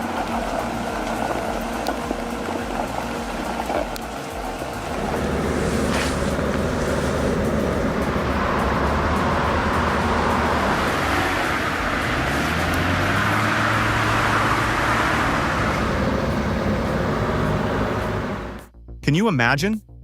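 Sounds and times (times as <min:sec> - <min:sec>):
heavy engine running under load: 0:00.0 - 0:18.7.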